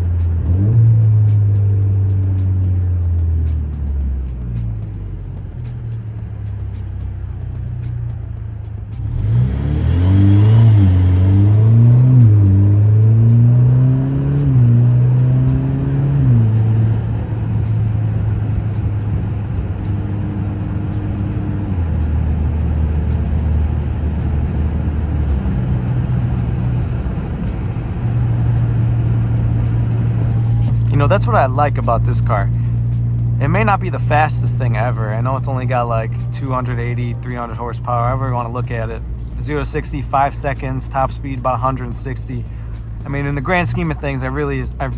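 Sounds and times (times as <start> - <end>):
car engine accelerating through gears: 0.0 - 44.9.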